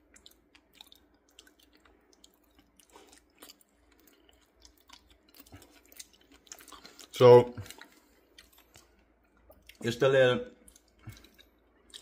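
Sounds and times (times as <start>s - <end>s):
person chewing: 0.0s - 9.8s, 10.6s - 12.0s.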